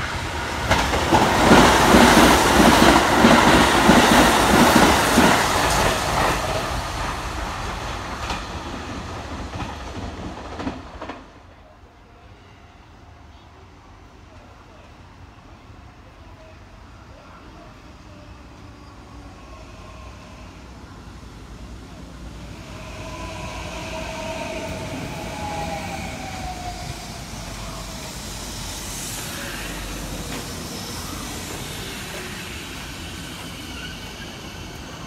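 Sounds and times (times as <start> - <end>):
train wheels rumbling on rails: 0.0 - 11.7, 17.1 - 35.0.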